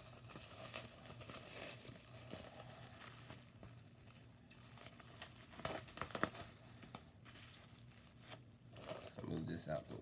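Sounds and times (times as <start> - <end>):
bubble wrap rustling and crinkling: 0.0 - 10.0.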